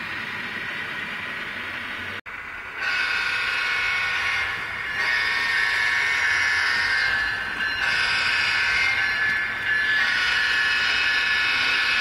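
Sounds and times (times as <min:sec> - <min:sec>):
passing diesel train: 0:00.0 - 0:12.0.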